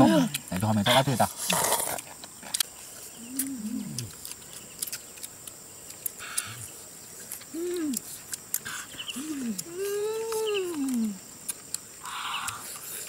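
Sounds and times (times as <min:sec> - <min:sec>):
people humming mmm while eating: 0:00.0 - 0:00.5, 0:01.4 - 0:13.0.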